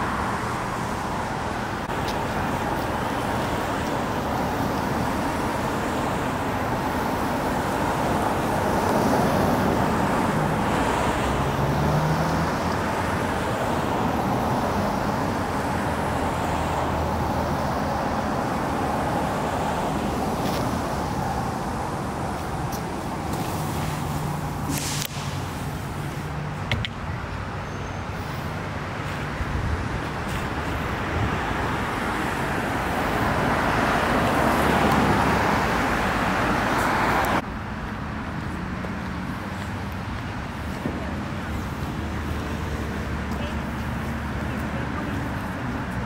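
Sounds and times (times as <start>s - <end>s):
hum of passing cars: 0.0s - 46.0s.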